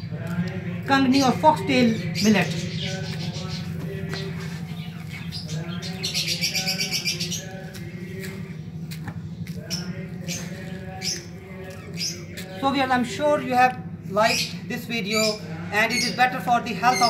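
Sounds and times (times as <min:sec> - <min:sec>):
lovebirds chirping and chattering: 0:00.0 - 0:17.0
steady low hum: 0:00.0 - 0:17.0.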